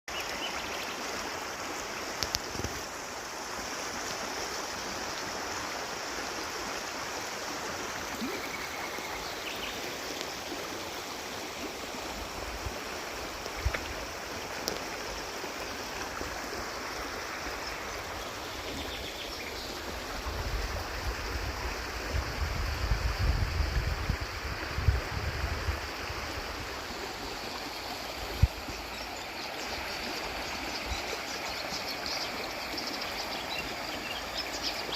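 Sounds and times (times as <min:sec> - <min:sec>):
stream water flowing: 0:00.1 - 0:34.9.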